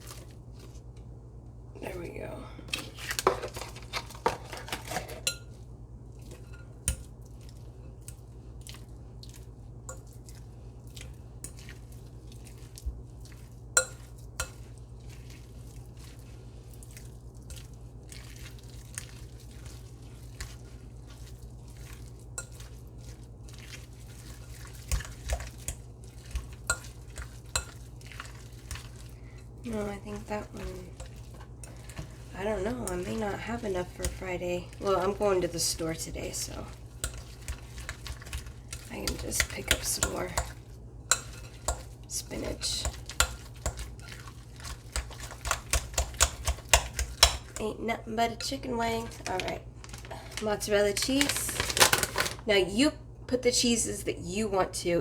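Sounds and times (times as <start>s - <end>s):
steady low hum: 0.0s - 51.6s.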